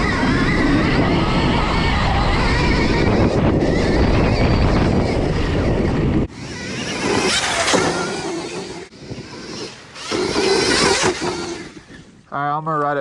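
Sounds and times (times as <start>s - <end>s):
rustling dirt and tyre noise: 0.0s - 12.3s
wavering engine whine: 0.0s - 12.3s
wind buffeting microphone: 0.0s - 12.3s.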